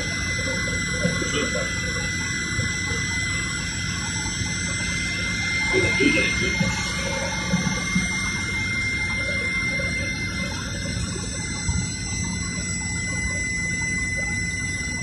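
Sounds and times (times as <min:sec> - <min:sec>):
airliner cabin noise: 0:00.0 - 0:12.4
low hum: 0:00.0 - 0:15.0
thin high whine: 0:00.0 - 0:15.0.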